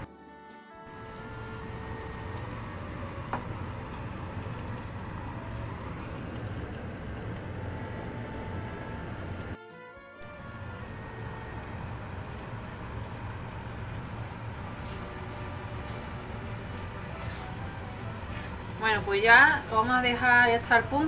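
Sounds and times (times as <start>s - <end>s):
rice simmering and sizzling: 0.9s - 9.6s, 10.2s - 21.0s.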